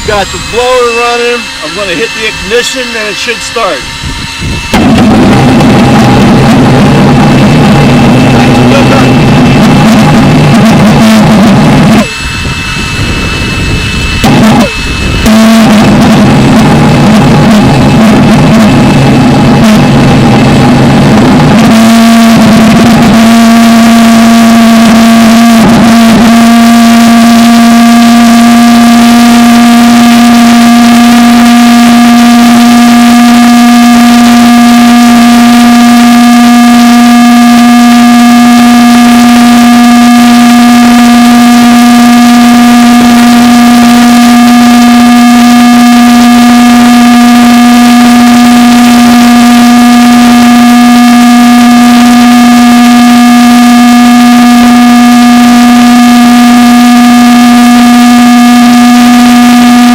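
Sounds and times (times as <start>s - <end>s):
pulse jet engine droning: 0.0s - 59.9s.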